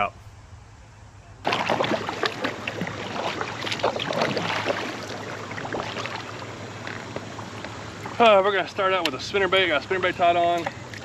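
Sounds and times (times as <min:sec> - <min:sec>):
water splashing around kayak: 0:01.4 - 0:11.0.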